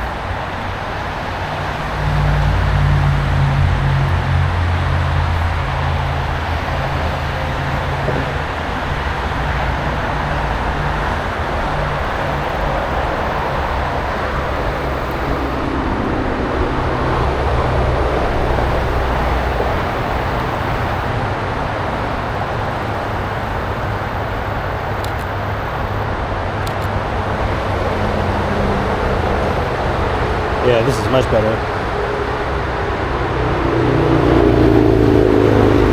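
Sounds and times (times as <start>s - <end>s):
highway traffic rumble: 0.0s - 35.9s.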